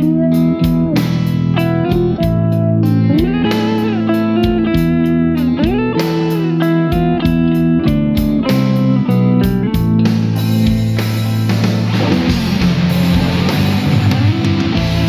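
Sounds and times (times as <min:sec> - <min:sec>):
backing track drums: 0:00.0 - 0:15.0
bass: 0:00.0 - 0:15.0
electric guitar melody: 0:00.0 - 0:15.0.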